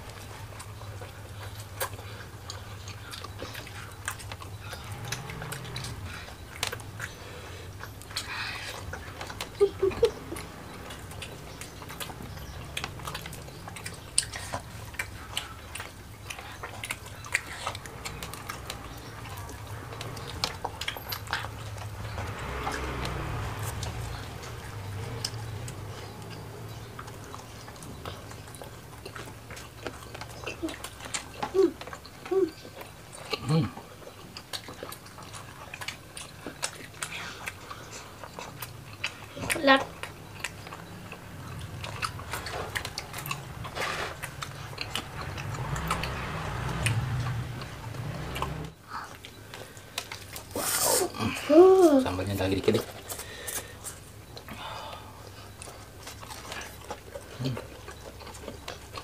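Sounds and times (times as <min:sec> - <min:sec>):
chewing and lip smacks: 0:00.0 - 0:59.0.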